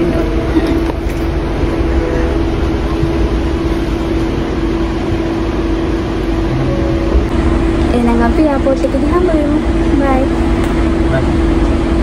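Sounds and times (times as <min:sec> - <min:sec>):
constant humming tone: 0:00.0 - 0:12.0
train low rumble: 0:00.0 - 0:12.0.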